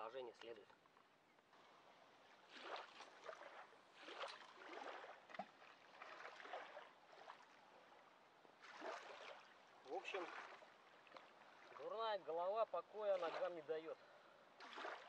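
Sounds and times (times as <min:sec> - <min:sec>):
river water lapping at bank: 0:00.0 - 0:15.0.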